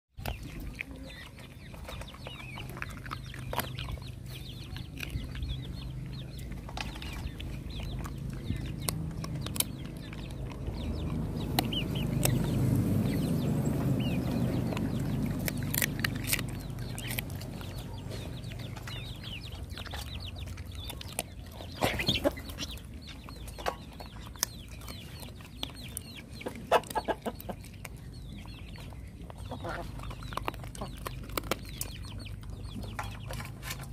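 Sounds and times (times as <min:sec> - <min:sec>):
chickens clucking: 0:00.2 - 0:33.9
dog crunching bones: 0:00.2 - 0:33.9.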